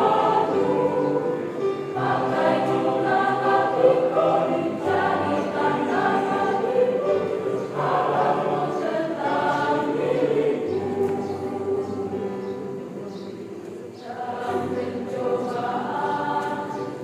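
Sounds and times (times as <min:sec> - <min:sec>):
church choir singing a hymn: 0:00.0 - 0:17.0.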